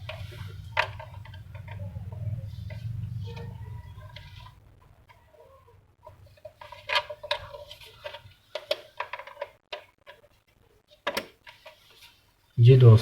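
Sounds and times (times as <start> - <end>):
scraping rustle: 0.0 - 4.6, 5.3 - 10.4, 11.0 - 12.4.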